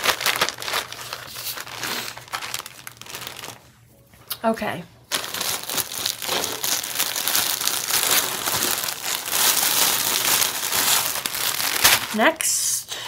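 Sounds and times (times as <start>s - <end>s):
plastic packaging crinkling: 0.0s - 3.8s, 5.1s - 12.5s.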